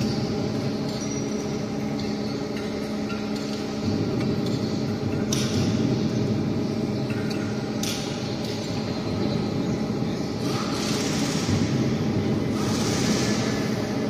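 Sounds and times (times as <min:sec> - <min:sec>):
hydraulic machine hum: 0:00.0 - 0:14.0.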